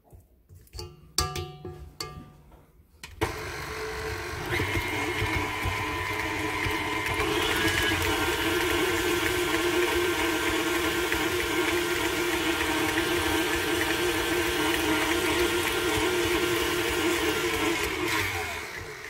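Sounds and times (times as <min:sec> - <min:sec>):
stand mixer motor hum: 0:03.2 - 0:19.0.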